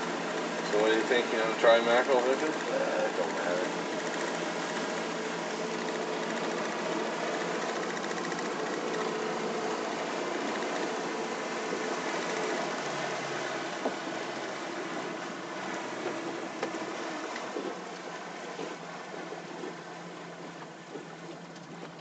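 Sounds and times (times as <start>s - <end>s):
boat engine running: 0.0s - 22.0s
water splashing along boat hull: 0.0s - 22.0s.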